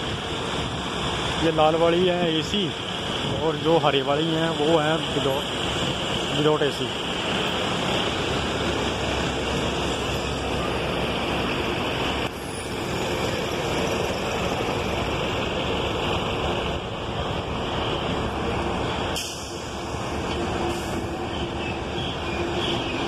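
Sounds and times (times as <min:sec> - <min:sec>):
bus engines idling and moving: 0:00.0 - 0:23.0.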